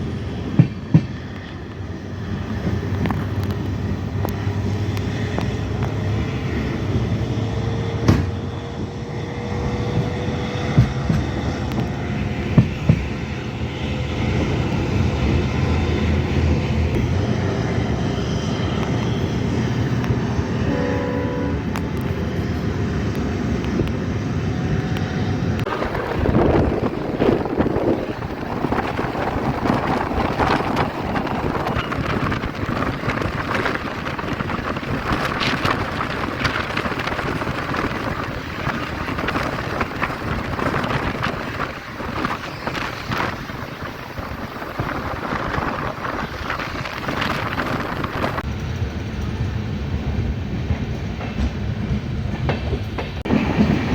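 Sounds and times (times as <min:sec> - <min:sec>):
train rumbling: 0:00.0 - 0:53.9.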